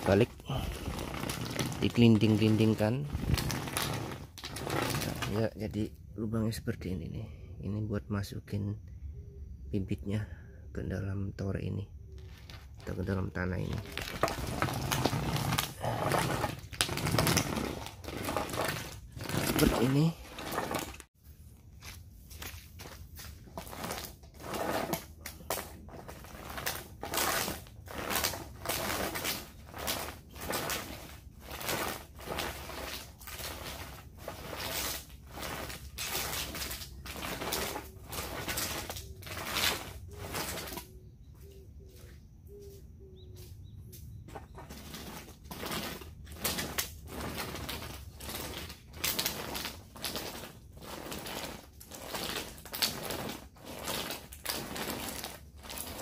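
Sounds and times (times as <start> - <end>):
spiked roller pressing into soil: 0.0 - 5.8, 12.1 - 21.1, 21.9 - 41.0, 44.2 - 56.0.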